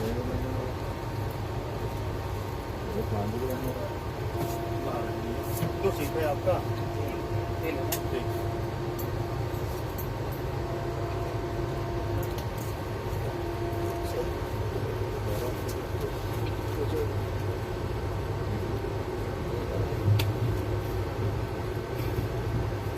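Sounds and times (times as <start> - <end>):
train rumbling inside coach: 0.0 - 22.9.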